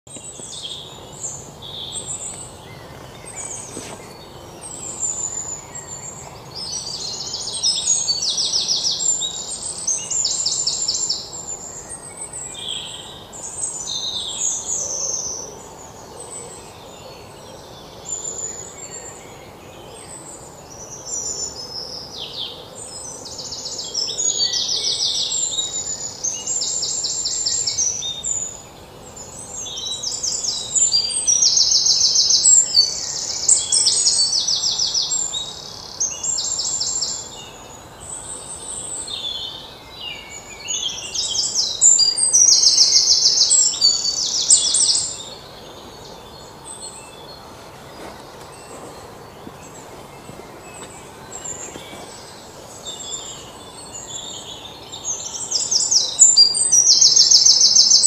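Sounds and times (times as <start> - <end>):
birds singing and chirping: 0.1 - 58.0.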